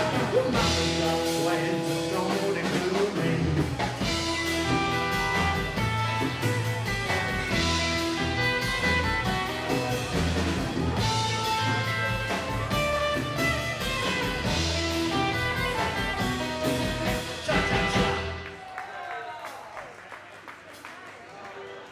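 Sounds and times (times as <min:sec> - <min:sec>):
drums: 0:00.0 - 0:18.7.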